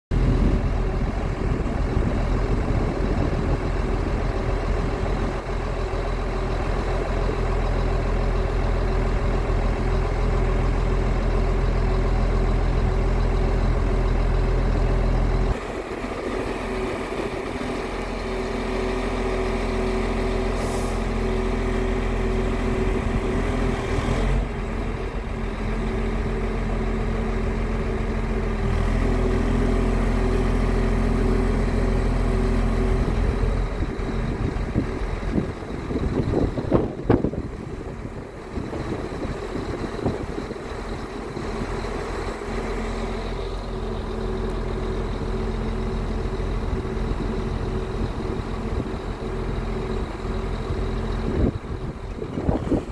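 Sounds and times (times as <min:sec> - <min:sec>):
truck diesel engine idling: 0:00.1 - 0:52.9.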